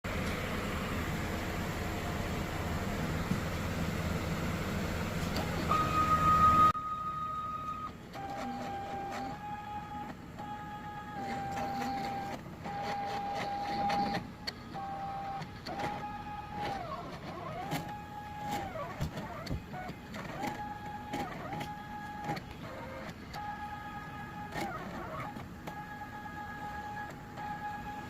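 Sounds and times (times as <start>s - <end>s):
stepper motors whining: 0.1s - 28.0s.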